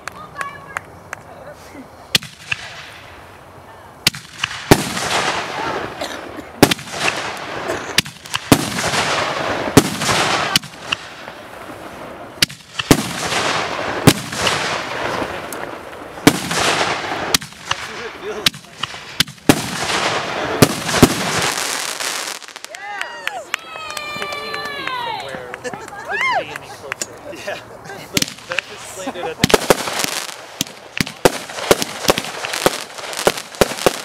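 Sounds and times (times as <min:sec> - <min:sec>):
crackling firework hiss: 0:00.1 - 0:24.6, 0:26.6 - 0:34.0
firework bangs: 0:02.1 - 0:03.3, 0:04.0 - 0:24.7, 0:28.1 - 0:34.0.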